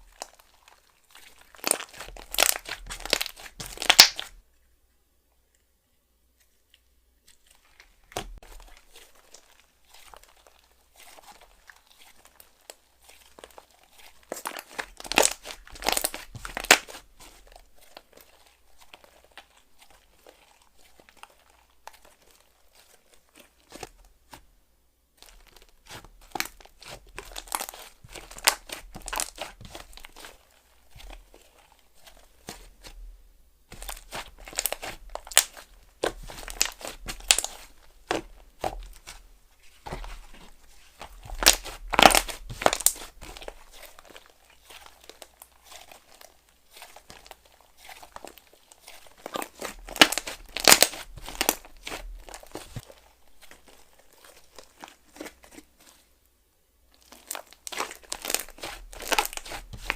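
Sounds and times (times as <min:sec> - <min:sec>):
slime crackling and popping: 0:00.0 - 0:04.4, 0:07.4 - 0:24.4, 0:25.2 - 0:33.1, 0:33.7 - 0:56.0, 0:56.9 - 0:59.9
hands handling slime: 0:00.0 - 0:04.7, 0:05.3 - 0:24.5, 0:25.1 - 0:56.3, 0:56.9 - 0:59.9.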